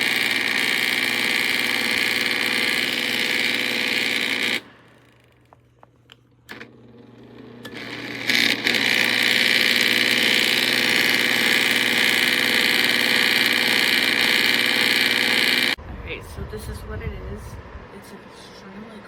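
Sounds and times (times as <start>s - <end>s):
heater fan motor whirring: 0.0s - 19.0s.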